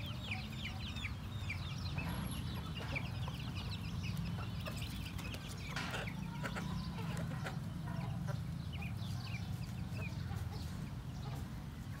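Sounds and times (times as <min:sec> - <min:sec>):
chicks peeping: 0:00.0 - 0:12.0
hens clucking: 0:00.0 - 0:12.0.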